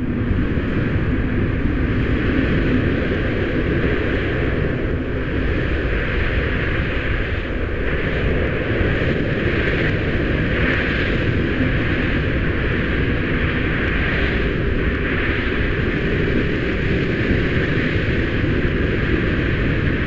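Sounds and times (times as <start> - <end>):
strong wind blowing: 0.0 - 20.0.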